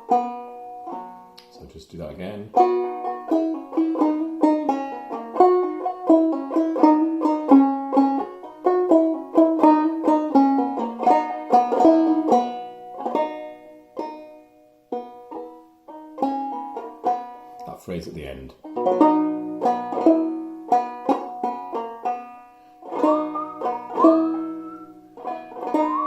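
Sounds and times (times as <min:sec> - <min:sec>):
banjo playing jig melody: 0:00.0 - 0:26.0.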